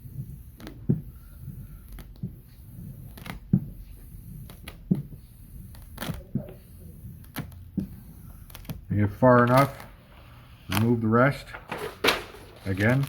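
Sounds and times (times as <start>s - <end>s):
squeegee scraping on vinyl film: 0.0s - 13.0s.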